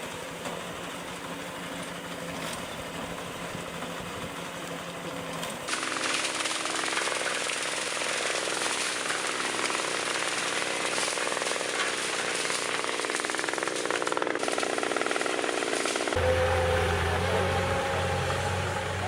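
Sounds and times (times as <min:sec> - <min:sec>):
farm machinery rattling: 0:00.0 - 0:16.2.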